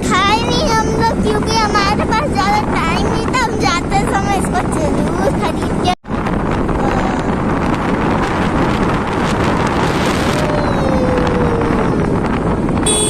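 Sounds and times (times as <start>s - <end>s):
road vehicle moving: 0.0s - 13.0s
wind buffeting microphone: 0.0s - 13.0s.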